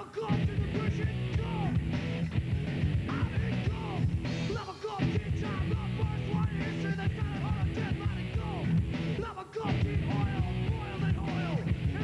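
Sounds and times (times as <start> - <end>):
punk rock song: 0.0 - 12.0.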